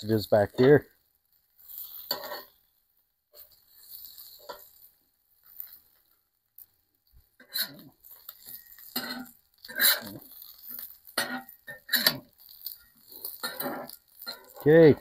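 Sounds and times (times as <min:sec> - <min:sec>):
metal spatula scraping griddle: 0:00.1 - 0:00.9, 0:01.5 - 0:02.7, 0:03.4 - 0:06.7, 0:07.4 - 0:15.0.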